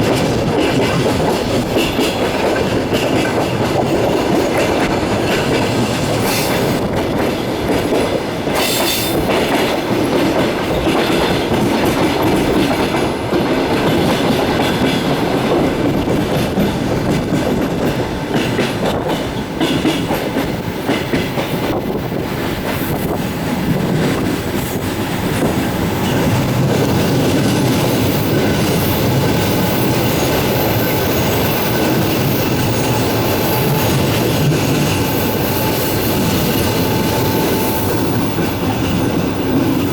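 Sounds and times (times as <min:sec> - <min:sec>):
sharp clicks of train wheels: 0:00.0 - 0:39.9
train wheels rumbling on rails: 0:00.0 - 0:39.9.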